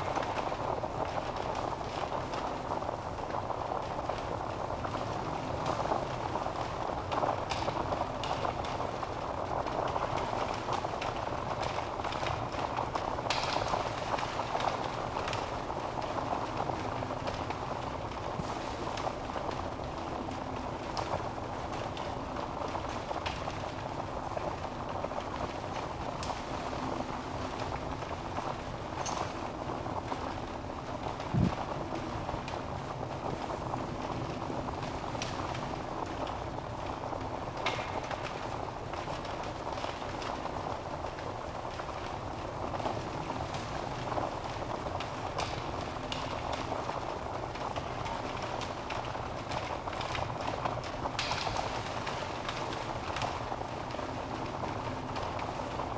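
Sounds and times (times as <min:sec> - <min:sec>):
fire popping: 0:00.0 - 0:55.9
wood fire hissing and crackling: 0:00.0 - 0:55.9.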